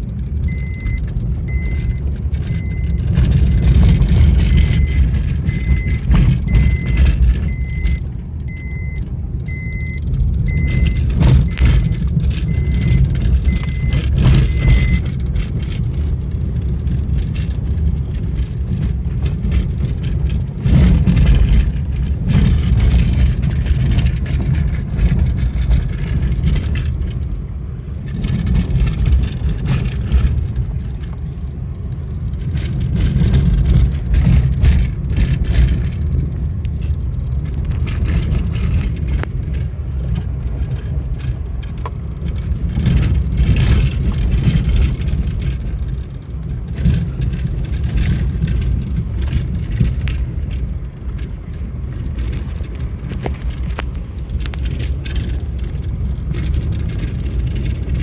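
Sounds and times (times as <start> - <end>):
heavy low rumble: 0.0 - 58.0
vehicle engine and road noise: 0.0 - 58.0.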